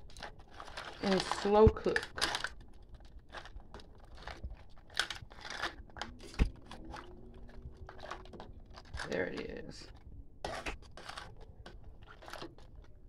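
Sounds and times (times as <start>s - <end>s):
crab shells crunching and knocking: 0.0s - 13.0s.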